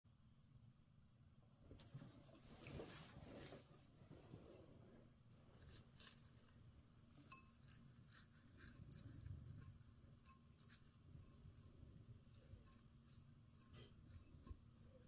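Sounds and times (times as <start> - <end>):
low room hum: 0.1 - 15.0.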